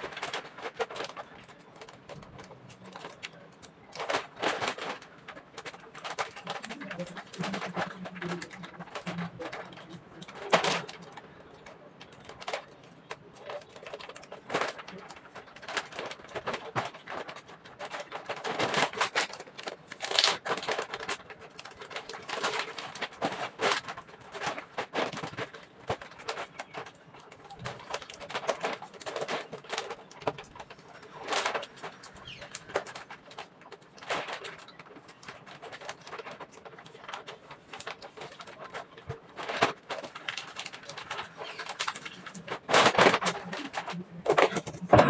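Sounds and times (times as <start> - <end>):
plastic bag crinkling: 0.0 - 45.0.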